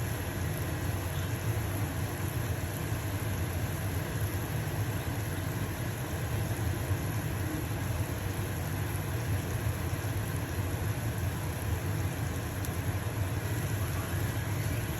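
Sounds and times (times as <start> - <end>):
range hood fan humming: 0.0 - 14.9.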